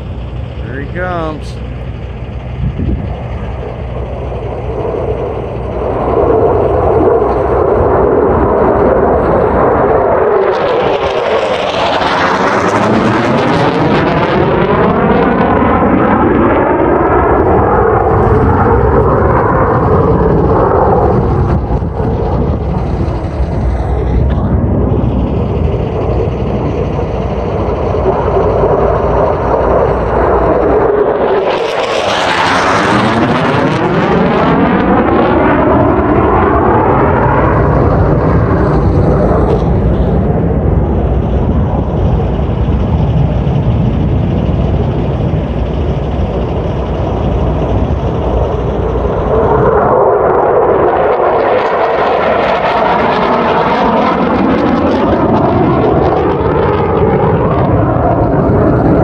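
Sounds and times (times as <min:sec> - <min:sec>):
fighter jets flying overhead: 0:00.0 - 0:59.0.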